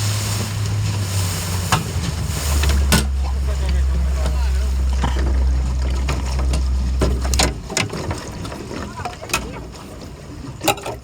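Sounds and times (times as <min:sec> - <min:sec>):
boat engine humming: 0:00.0 - 0:11.0
knocks and clicks on boat: 0:00.3 - 0:11.0.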